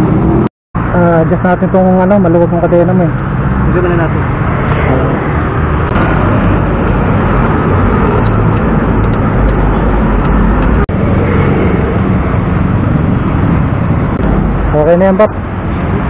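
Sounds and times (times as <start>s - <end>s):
road traffic roar: 0.0s - 16.0s.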